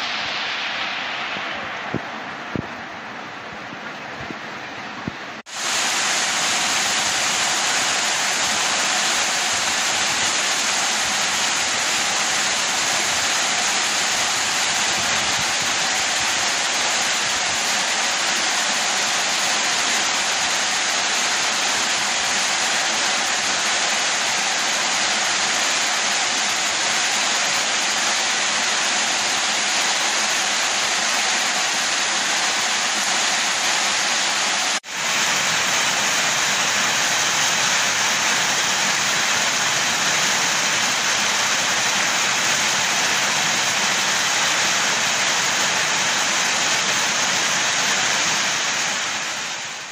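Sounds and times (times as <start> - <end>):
heavy rain on leaves: 5.3 - 49.9.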